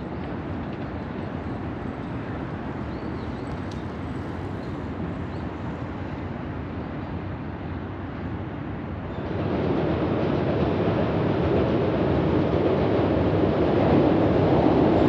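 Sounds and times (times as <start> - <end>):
low rumble of city vehicles: 0.0 - 15.0.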